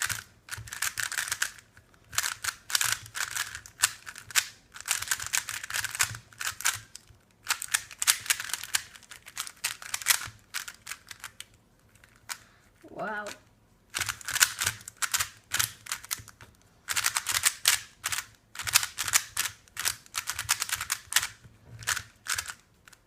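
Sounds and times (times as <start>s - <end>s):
puzzle cube plastic clicking: 0.0s - 12.4s, 13.3s - 23.0s.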